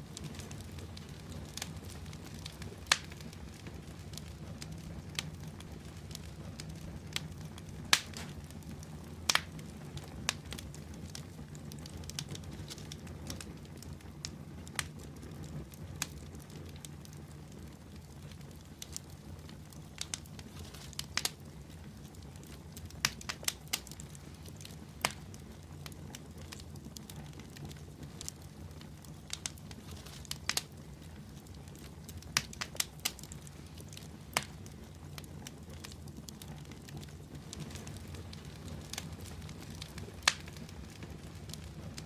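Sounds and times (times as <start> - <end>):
fire crackling and popping: 0.0 - 42.0
fire flames rumbling: 0.0 - 42.0.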